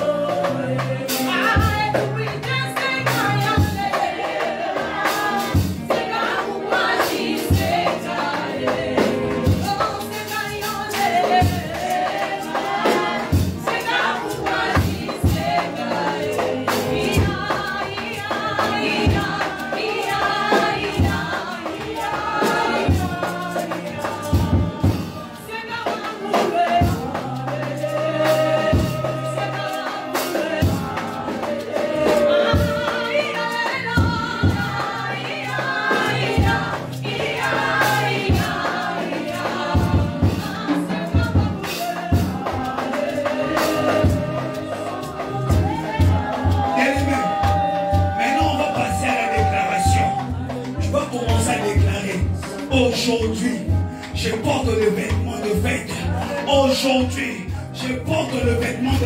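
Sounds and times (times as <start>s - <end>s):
choir singing: 0.0s - 59.0s
drums keeping a steady beat: 0.0s - 59.0s.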